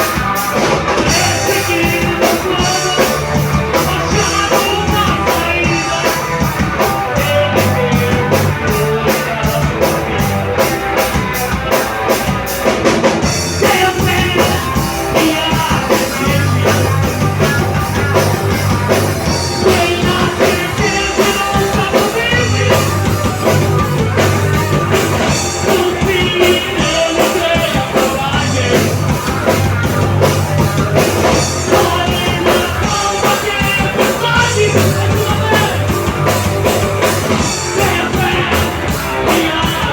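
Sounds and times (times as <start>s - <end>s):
bass guitar: 0.0s - 39.9s
drum kit: 0.0s - 39.9s
person singing: 1.0s - 10.7s, 13.5s - 39.9s.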